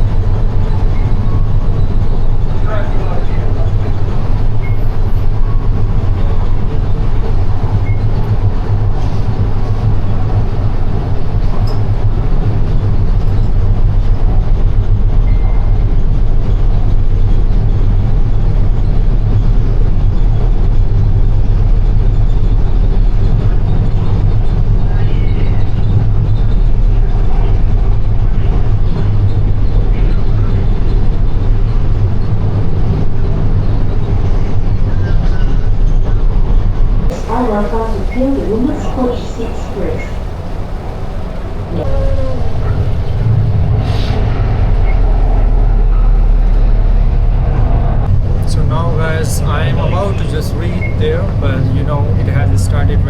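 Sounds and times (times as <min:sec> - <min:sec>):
train carriage rumbling: 0:00.0 - 0:53.0.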